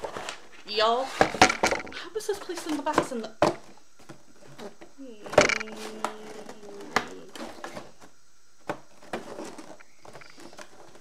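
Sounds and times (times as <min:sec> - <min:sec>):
cardboard rustling: 0:00.0 - 0:11.0.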